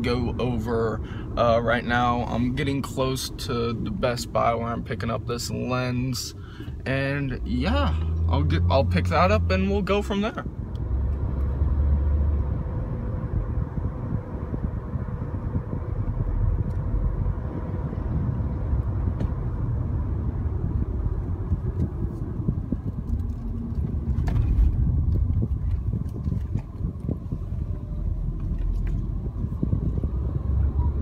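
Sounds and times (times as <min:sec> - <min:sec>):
car engine rumble: 0:00.0 - 0:31.0
road noise: 0:00.0 - 0:31.0.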